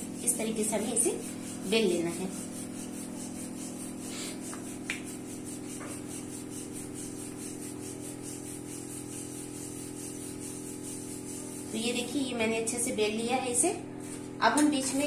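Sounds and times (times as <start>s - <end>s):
rolling pin rolling dough: 0.0s - 12.3s
steady background hum: 0.0s - 15.0s.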